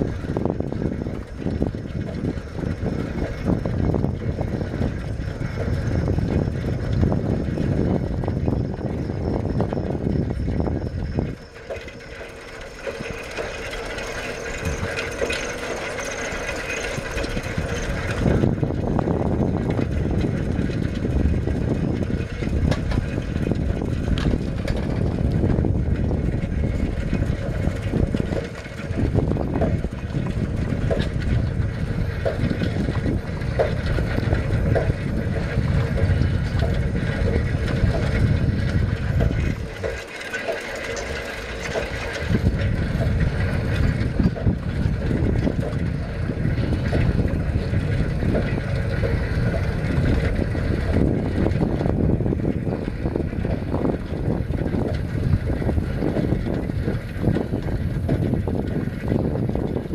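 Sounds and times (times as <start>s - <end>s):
bicycle tyres rumbling on road: 0.0s - 59.9s
bike rattling: 0.0s - 59.9s
wind on microphone: 0.0s - 59.9s.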